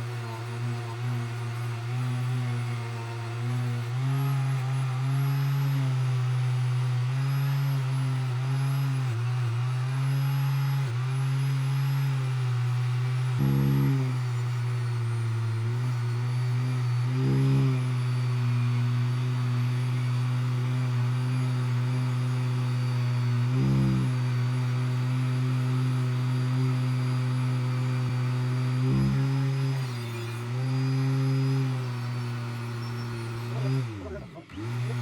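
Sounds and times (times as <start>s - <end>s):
electric air pump humming: 0.0s - 35.0s.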